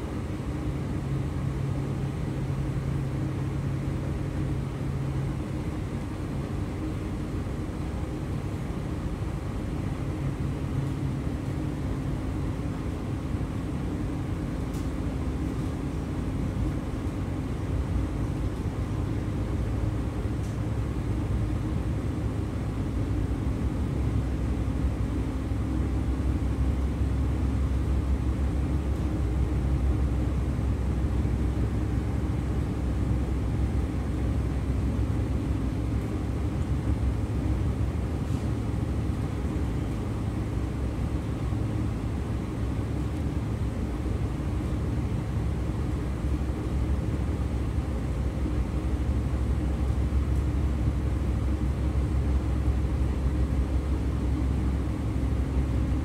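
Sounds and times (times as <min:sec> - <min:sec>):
low electric hum: 0:00.0 - 0:56.0.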